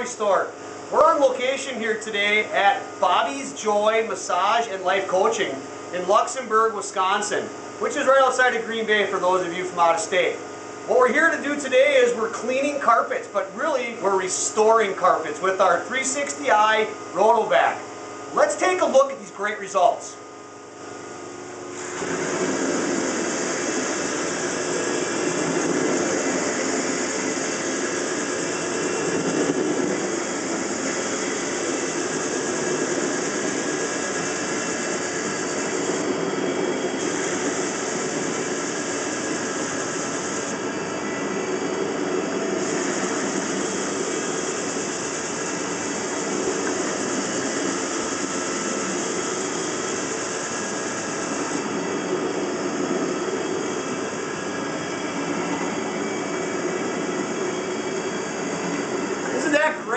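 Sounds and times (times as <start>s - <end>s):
carpet cleaning machine roaring: 0.0s - 59.9s.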